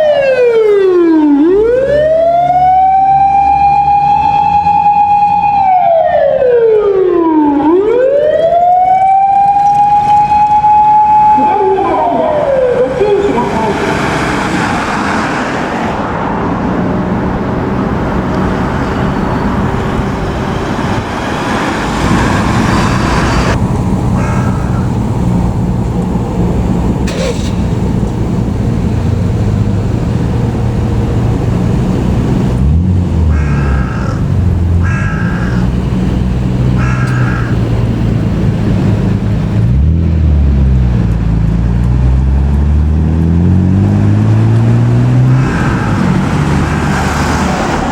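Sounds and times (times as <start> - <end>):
diesel truck engine revving: 7.4 - 47.9.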